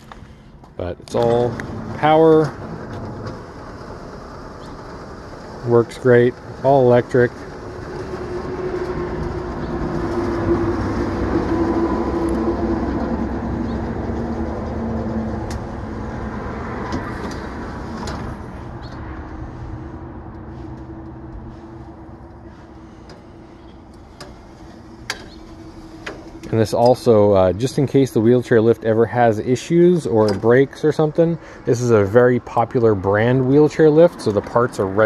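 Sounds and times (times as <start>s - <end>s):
wheelchair lift motor whine: 0.0s - 28.8s.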